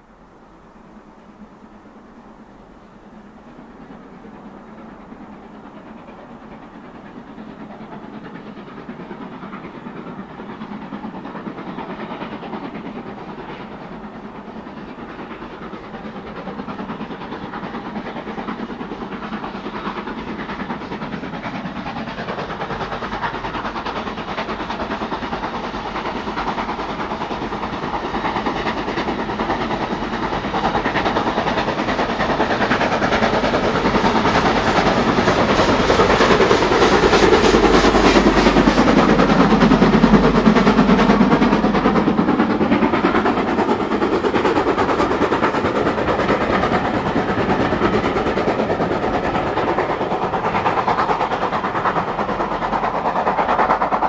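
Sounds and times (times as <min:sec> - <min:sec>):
steam train approaching: 0:00.0 - 0:54.0.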